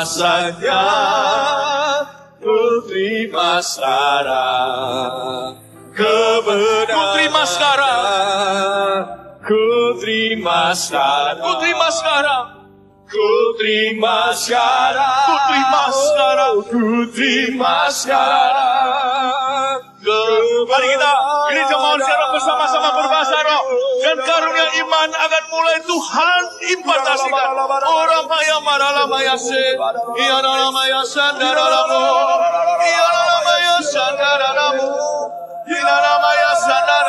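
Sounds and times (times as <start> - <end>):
worship singing with vibrato: 0.0 - 37.0.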